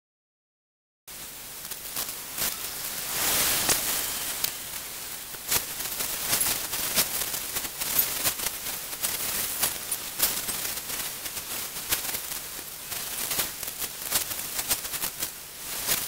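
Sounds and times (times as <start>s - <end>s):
static-like hiss: 1.1s - 16.0s
crackles and sharp clicks: 1.5s - 16.0s.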